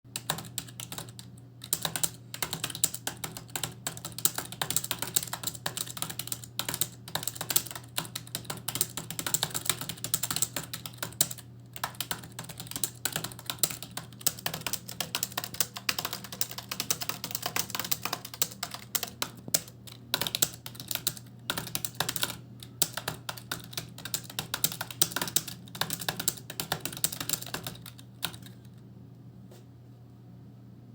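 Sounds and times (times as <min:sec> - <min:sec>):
fast typing on computer keyboard: 0:00.1 - 0:28.7
steady low hum: 0:00.1 - 0:30.9.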